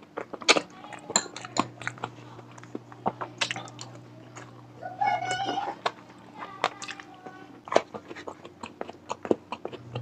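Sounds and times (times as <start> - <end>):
man chewing wetly: 0.0 - 4.7, 5.8 - 10.0.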